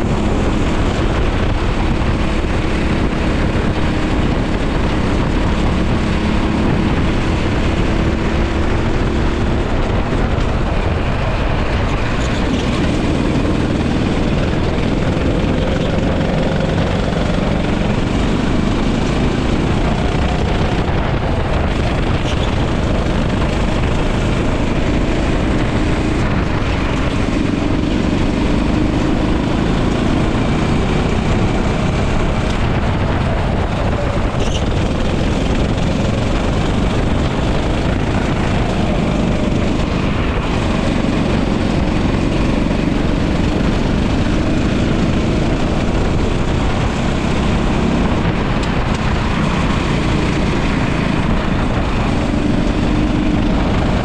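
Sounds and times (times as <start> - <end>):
racing kart engine: 0.0 - 54.0
wind rumble on microphone: 0.0 - 54.0.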